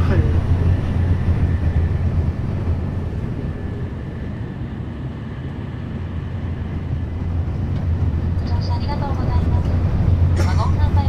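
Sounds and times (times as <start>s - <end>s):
air rushing past train: 0.0s - 11.0s
wheels rumbling on rail: 0.0s - 11.0s.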